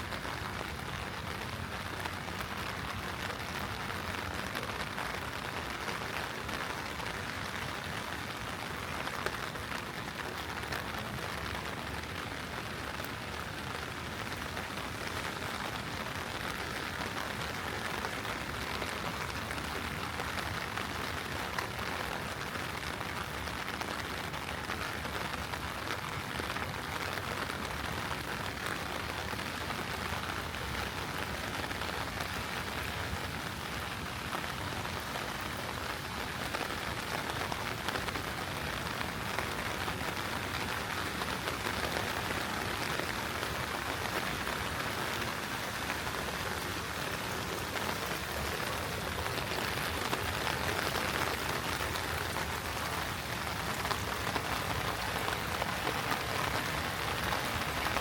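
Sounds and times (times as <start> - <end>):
heavy rain on hard surfaces: 0.0 - 58.0.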